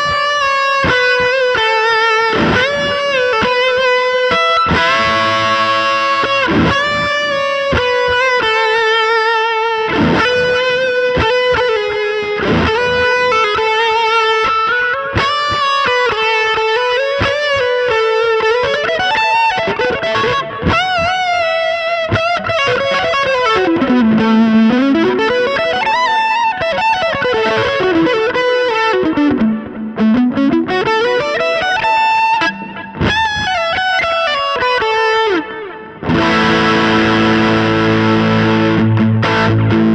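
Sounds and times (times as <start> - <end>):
distorted electric guitar lead: 0.0 - 39.9.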